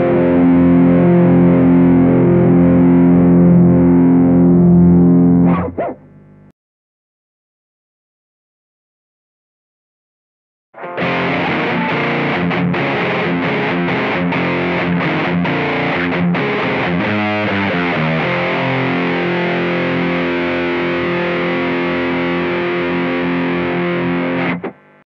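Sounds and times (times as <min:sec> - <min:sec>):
distorted electric guitar riff: 0:00.0 - 0:06.5, 0:10.8 - 0:25.0.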